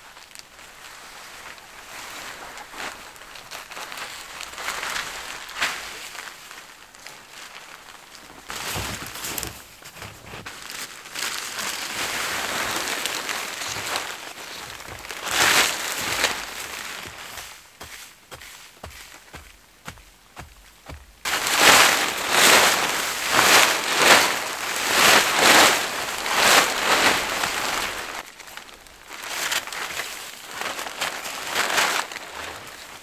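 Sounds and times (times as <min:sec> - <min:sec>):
tarp fabric rustling and swishing: 0:00.0 - 0:19.5, 0:20.5 - 0:33.0.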